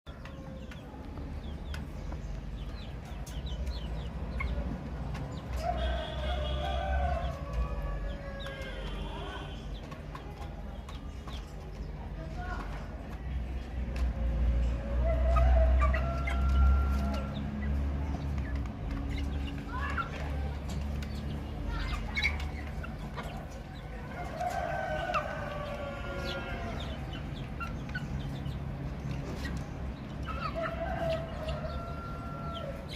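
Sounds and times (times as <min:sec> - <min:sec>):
chicks peeping: 0:00.1 - 0:32.9.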